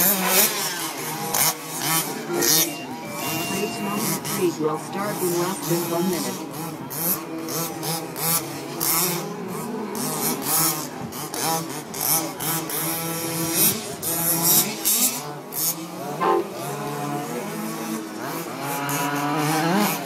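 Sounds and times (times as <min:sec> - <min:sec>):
small two-stroke engines revving: 0:00.0 - 0:20.0.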